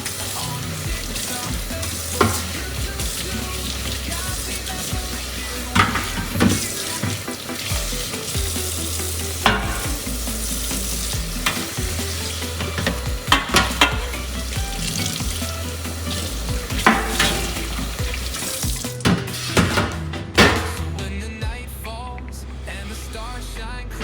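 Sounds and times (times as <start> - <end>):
steady hiss: 0.0 - 20.8
instrumental music with bass: 0.0 - 24.0.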